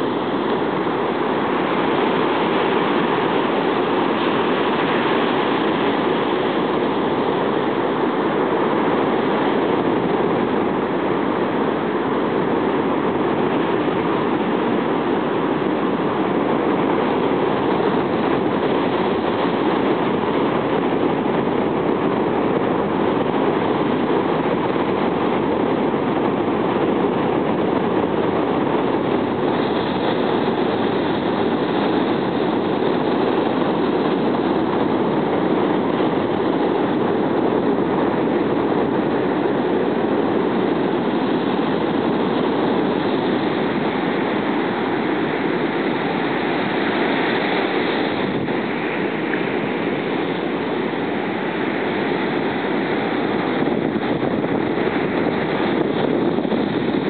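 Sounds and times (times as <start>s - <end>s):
heavy surf breaking on beach: 0.0s - 57.0s.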